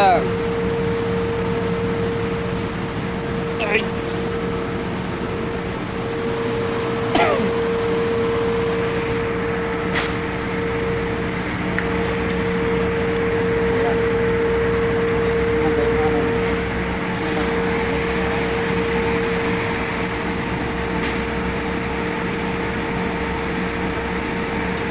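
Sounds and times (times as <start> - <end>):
machine humming with whine: 0.0 - 24.9.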